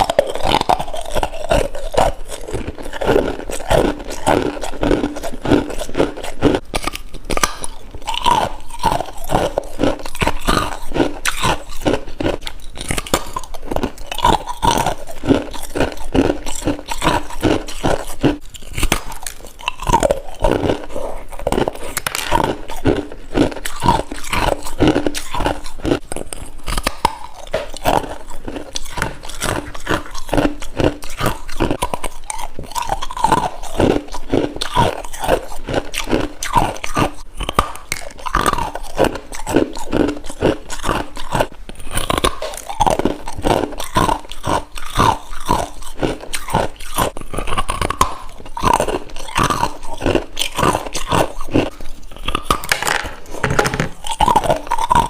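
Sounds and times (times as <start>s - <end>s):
chewing frost crunches: 0.0s - 53.4s, 54.0s - 55.0s.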